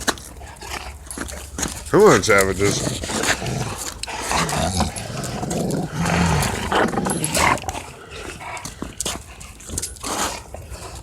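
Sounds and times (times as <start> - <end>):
dogs growling: 0.0 - 11.0.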